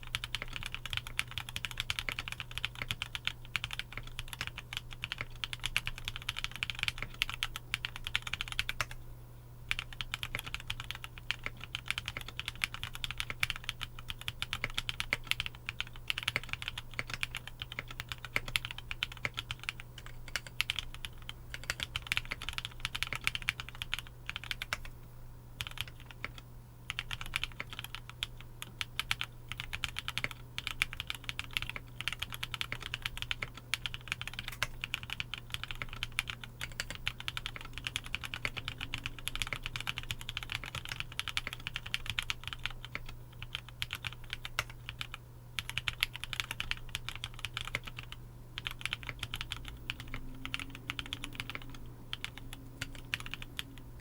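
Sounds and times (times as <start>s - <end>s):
fast typing on keyboard: 0.0s - 9.0s, 9.7s - 24.9s, 25.6s - 54.0s
low steady hum: 0.0s - 54.0s.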